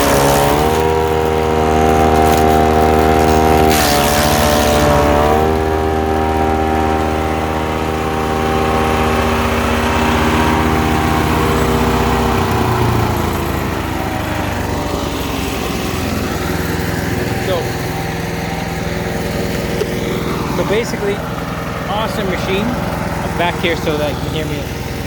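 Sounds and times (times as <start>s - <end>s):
woodchipper chipping burst: 0.0s - 25.0s
woodchipper engine running: 0.0s - 25.0s.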